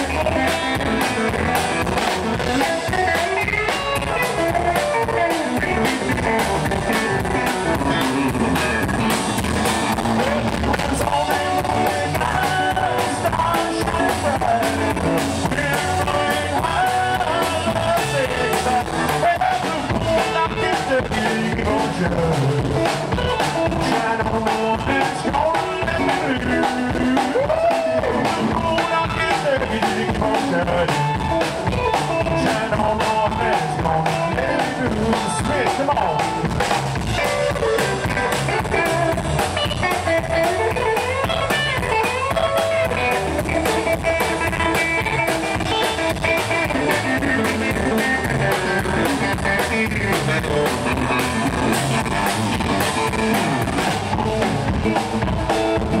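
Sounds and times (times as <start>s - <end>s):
rockabilly band playing: 0.0s - 56.0s.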